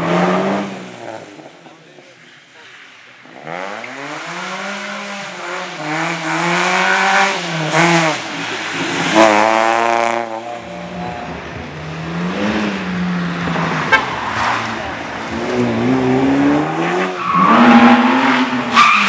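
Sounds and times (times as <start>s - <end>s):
race car engine revving: 3.4s - 19.0s.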